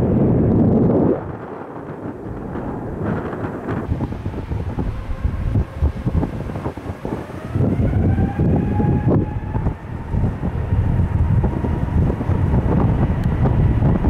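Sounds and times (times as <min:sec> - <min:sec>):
jet engines rumbling and whining: 0:00.0 - 0:14.0
wind buffeting microphone: 0:00.0 - 0:14.0.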